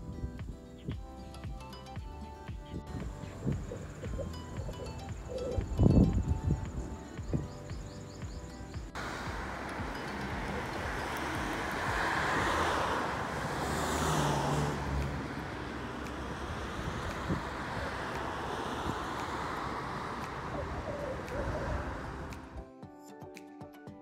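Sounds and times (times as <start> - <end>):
cars passing on road: 0.0 - 22.6.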